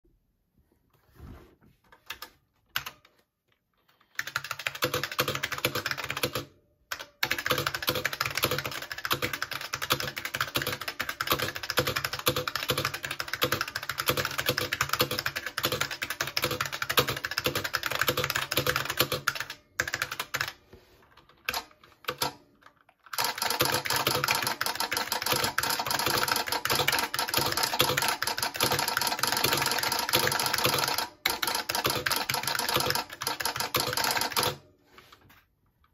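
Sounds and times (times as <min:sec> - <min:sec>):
fast typing on mechanical keyboard: 0:02.0 - 0:03.2, 0:04.0 - 0:34.6.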